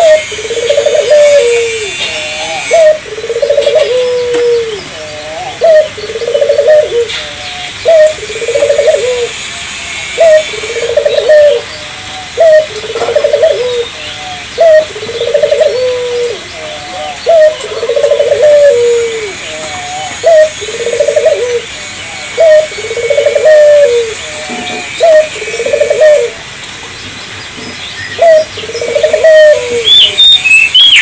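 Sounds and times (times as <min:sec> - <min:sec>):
dove cooing: 0:00.0 - 0:09.5, 0:10.1 - 0:26.4, 0:28.2 - 0:31.0.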